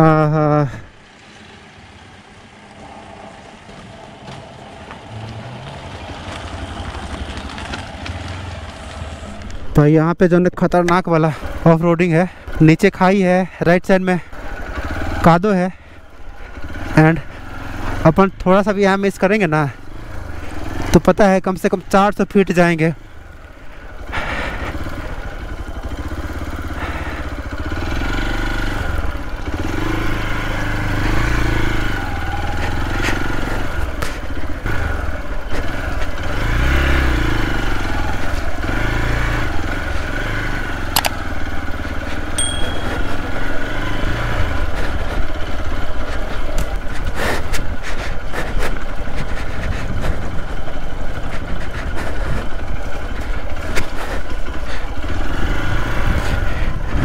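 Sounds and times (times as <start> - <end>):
motorcycle engine running: 0.0 - 9.8, 11.3 - 57.0.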